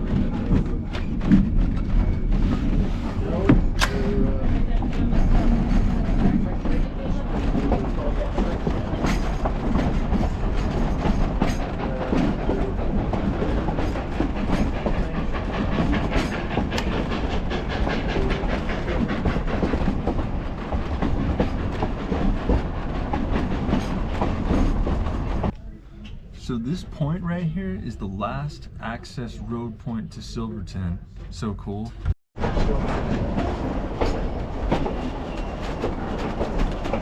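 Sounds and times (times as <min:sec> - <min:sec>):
wheels clicking on rails: 0:00.0 - 0:25.5, 0:32.4 - 0:37.0
train rumbling on track: 0:00.0 - 0:37.0.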